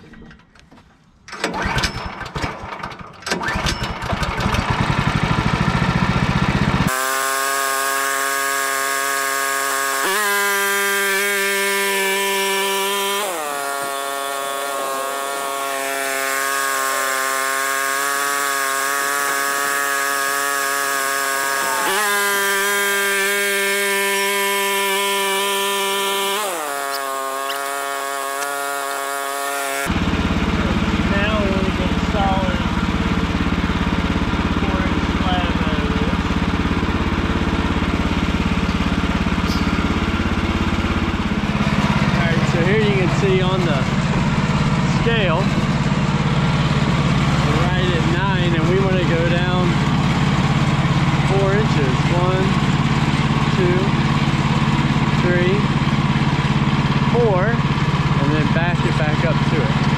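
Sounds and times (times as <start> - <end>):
gasoline engine starting and running: 0.0 - 59.9.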